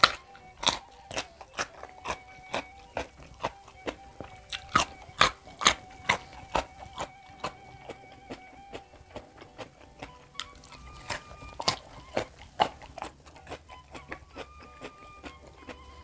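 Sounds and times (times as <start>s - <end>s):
eating crunches and wet smacks: 0.0s - 16.0s.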